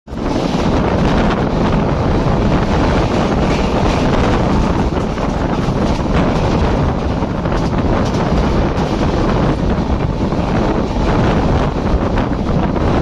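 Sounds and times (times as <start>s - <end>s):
train rumbling on rails: 0.1s - 13.0s
wind buffeting microphone: 0.1s - 13.0s.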